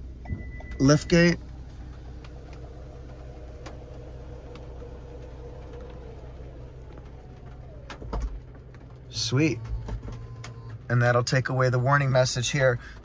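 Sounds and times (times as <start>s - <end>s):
liftgate motor whirring: 0.2s - 11.0s.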